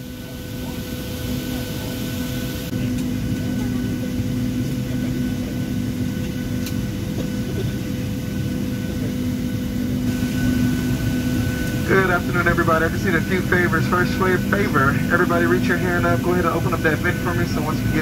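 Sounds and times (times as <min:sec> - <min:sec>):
aircraft cabin air system hum: 0:00.0 - 0:18.0.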